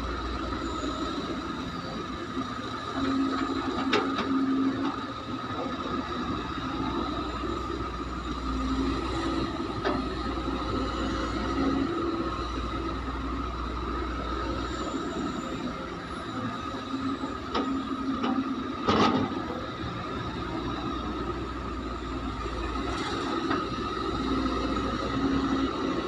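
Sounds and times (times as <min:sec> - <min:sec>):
excavator engine and hydraulics: 0:00.0 - 0:26.0.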